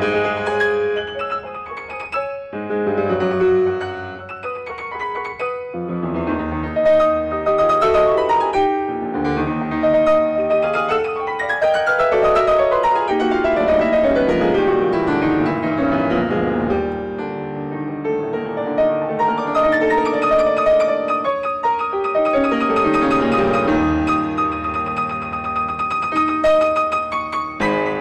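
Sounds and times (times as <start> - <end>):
solo grand piano: 0.0 - 28.0.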